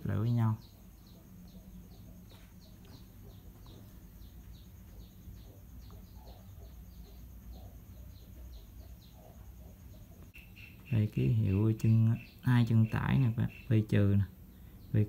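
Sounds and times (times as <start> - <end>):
bird chirping faintly: 0.0 - 15.0
low steady hum: 0.0 - 15.0.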